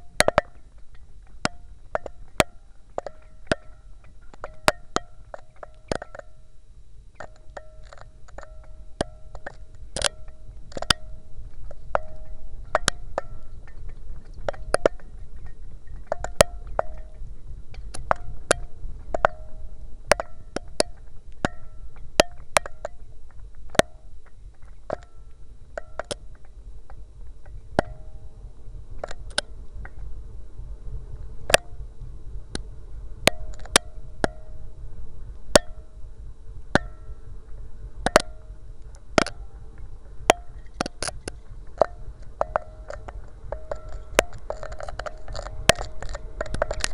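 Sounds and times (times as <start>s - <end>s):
hollow ringing tones: 0.0s - 30.1s, 32.6s - 46.9s
low rumble: 0.0s - 46.9s.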